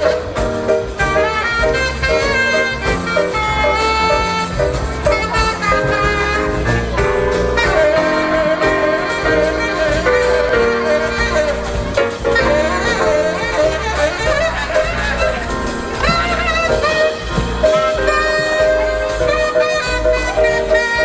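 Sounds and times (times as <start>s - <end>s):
bass: 0.0s - 21.0s
drums: 0.0s - 21.0s
horns playing melodic lines: 0.0s - 21.0s
piano: 0.0s - 21.0s.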